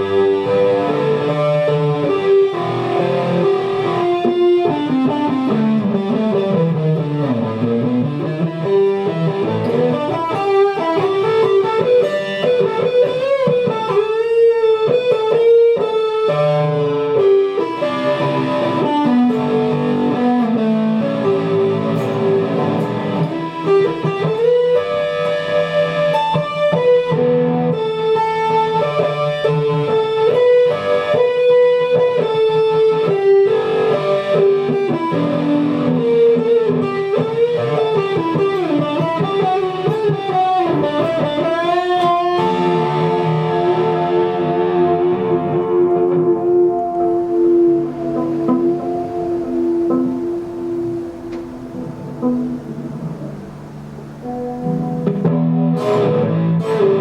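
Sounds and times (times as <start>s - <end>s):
melodic guitar with pitch bends: 0.0s - 57.0s.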